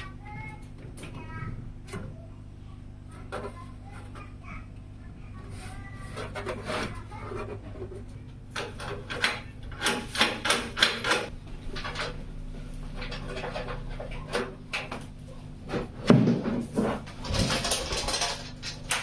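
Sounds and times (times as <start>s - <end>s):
steady low hum: 0.0s - 19.0s
rubbing and scraping of parts: 3.0s - 4.6s, 5.3s - 19.0s.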